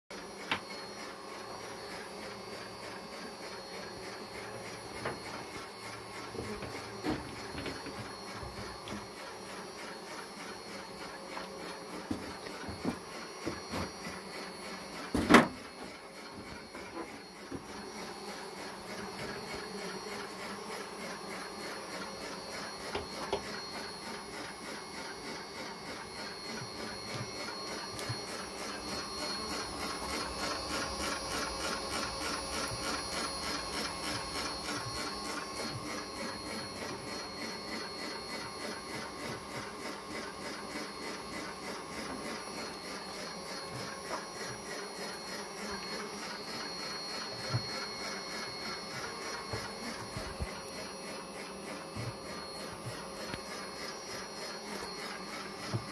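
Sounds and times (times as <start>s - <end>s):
extractor motor hum: 1.4s - 55.9s.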